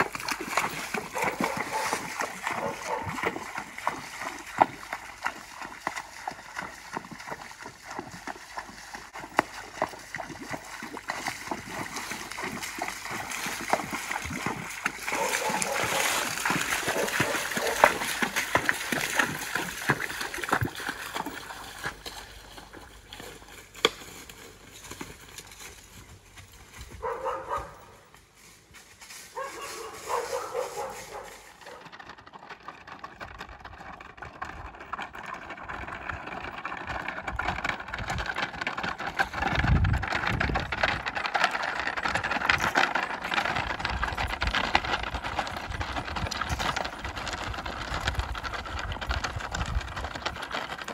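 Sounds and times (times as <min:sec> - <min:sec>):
hoofbeats on gravel: 0:00.0 - 0:50.9
horse hooves splashing through creek: 0:00.0 - 0:50.9.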